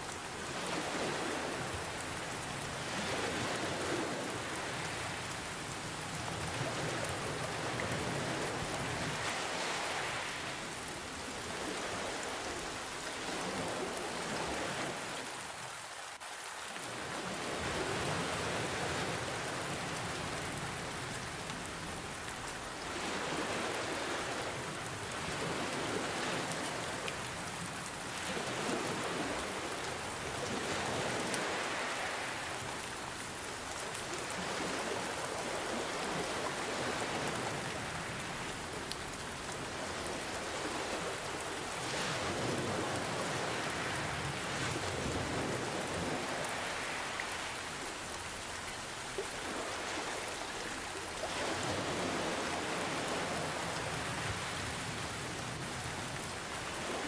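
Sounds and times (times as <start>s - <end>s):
ocean waves: 0.0s - 57.0s
rain hiss: 0.0s - 57.0s.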